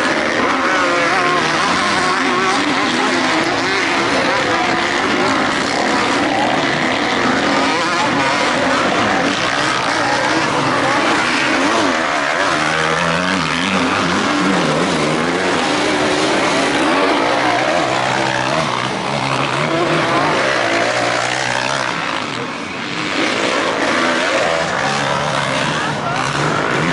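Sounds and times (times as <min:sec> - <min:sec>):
motocross bikes revving: 0:00.0 - 0:26.9.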